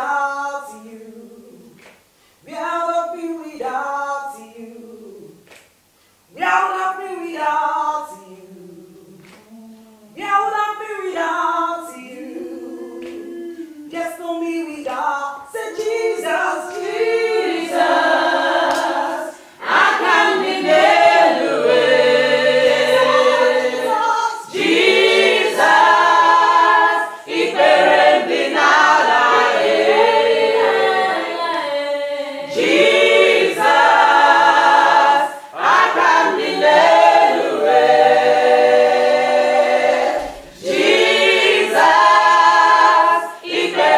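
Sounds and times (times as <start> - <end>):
group singing a cappella: 0.0 - 43.9.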